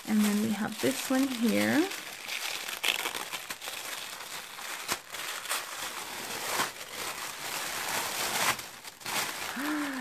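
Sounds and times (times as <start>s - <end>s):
tissue paper rustling and crinkling: 0.0s - 10.0s.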